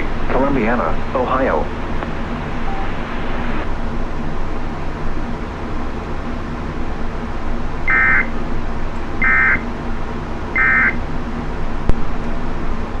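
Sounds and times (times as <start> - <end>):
receiver hiss and hum: 0.0 - 13.0.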